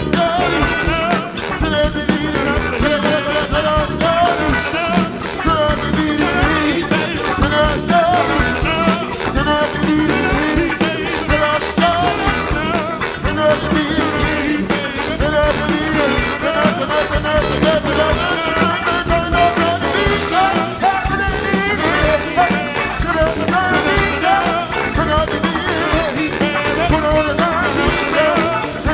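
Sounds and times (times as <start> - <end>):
live band playing upbeat song: 0.0 - 28.9.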